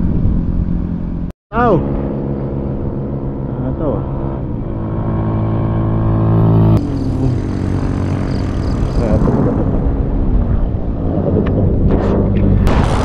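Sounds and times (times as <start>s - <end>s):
vehicle engine hum: 0.0s - 12.8s
engine and road noise: 0.0s - 13.0s.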